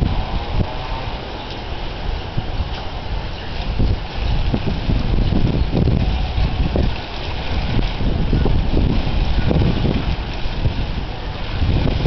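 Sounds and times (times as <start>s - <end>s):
water spraying from hose: 0.0s - 12.0s
wind buffeting microphone: 0.0s - 12.0s.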